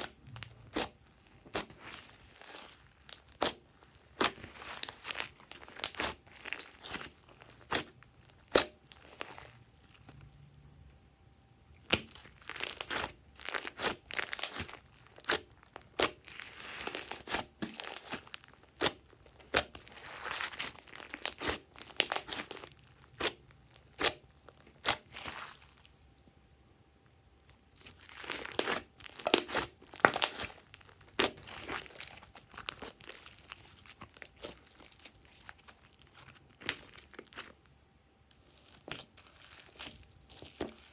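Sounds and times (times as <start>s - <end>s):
hands kneading sticky slime: 0.0s - 10.3s, 11.8s - 25.9s, 27.5s - 37.7s, 38.3s - 40.9s.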